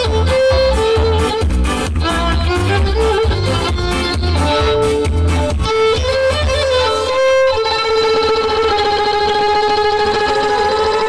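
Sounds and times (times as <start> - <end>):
pulsing low bass: 0.0 - 11.0
solo violin melody: 0.0 - 11.0.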